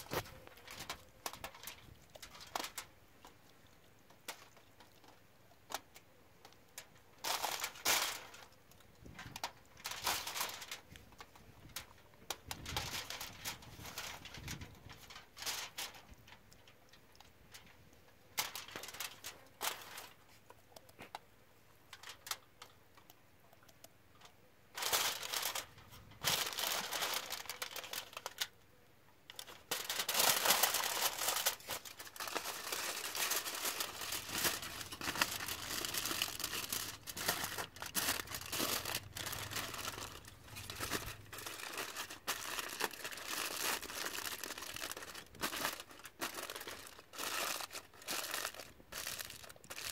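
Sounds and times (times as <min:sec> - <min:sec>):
aluminium foil crinkling: 0:00.0 - 0:21.2, 0:21.9 - 0:28.6, 0:29.3 - 0:49.9.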